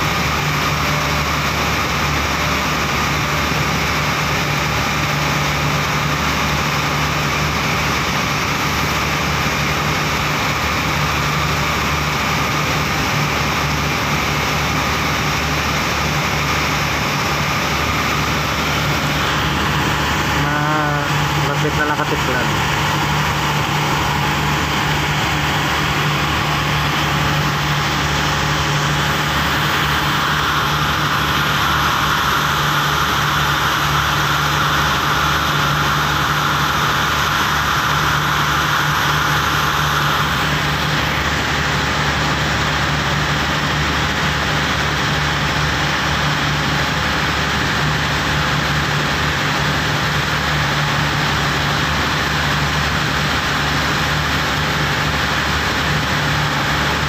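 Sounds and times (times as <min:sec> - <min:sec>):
boat engine droning: 0:00.0 - 0:57.0
water rushing along hull: 0:00.0 - 0:57.0.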